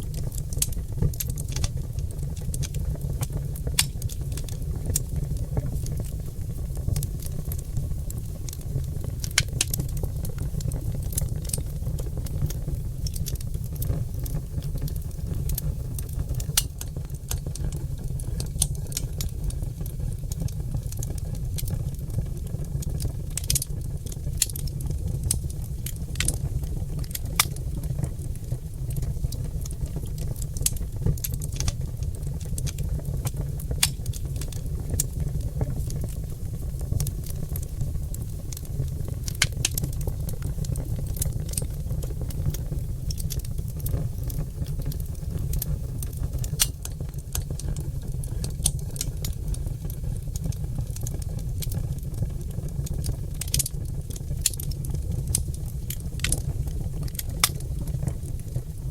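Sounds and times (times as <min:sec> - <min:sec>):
log fire crackling: 0:00.0 - 0:58.9.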